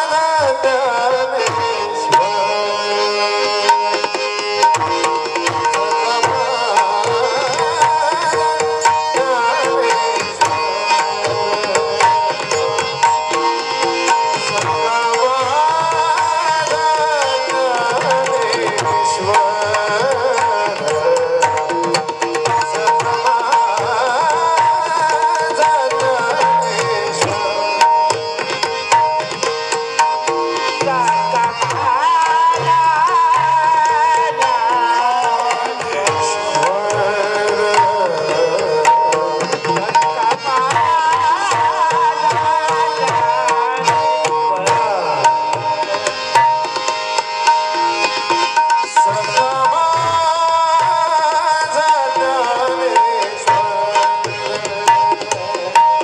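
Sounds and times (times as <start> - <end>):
tabla drumming: 0.0 - 56.0.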